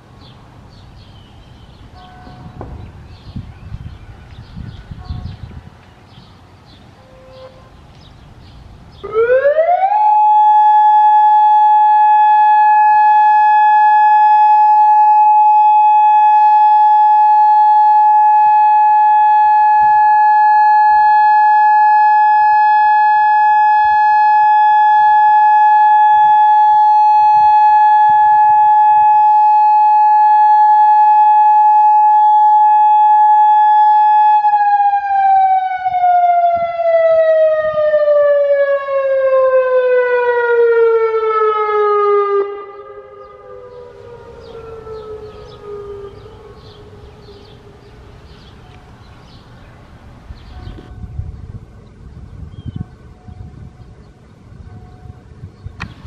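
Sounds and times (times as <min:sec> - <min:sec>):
warning siren steady tone: 0:01.9 - 0:02.8, 0:07.0 - 0:07.8, 0:09.0 - 0:49.0, 0:50.3 - 0:51.7, 0:52.6 - 0:56.0.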